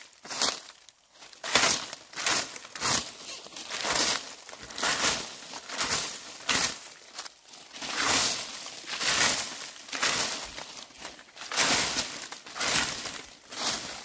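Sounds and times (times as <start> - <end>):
broom sweeping dry leaves: 0.0 - 14.0.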